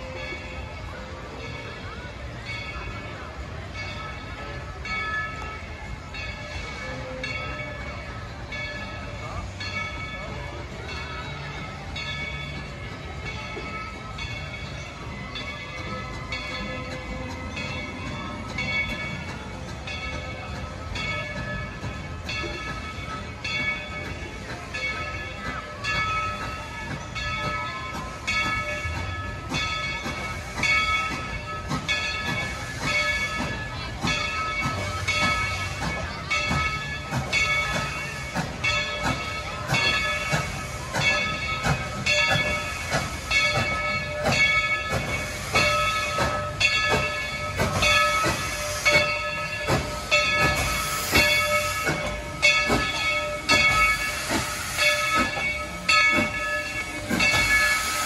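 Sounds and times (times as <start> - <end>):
locomotive bell ringing: 0.0 - 58.0
steam hissing: 0.0 - 58.0.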